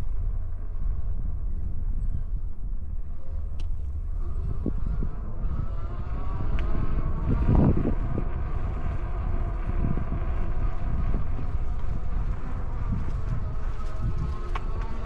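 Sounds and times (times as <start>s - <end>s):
electric motor whine: 0.0s - 15.0s
wind buffeting microphone: 0.0s - 15.0s.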